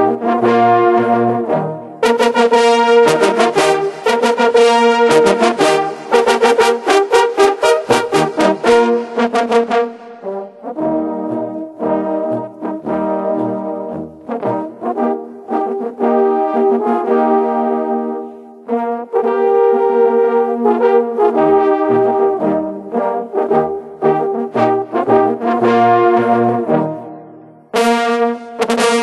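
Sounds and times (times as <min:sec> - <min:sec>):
brass ensemble playing: 0:00.0 - 0:29.0.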